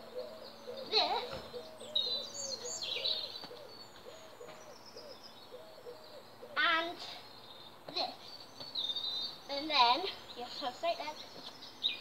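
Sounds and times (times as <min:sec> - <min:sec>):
songbird chirps: 0:00.0 - 0:12.0.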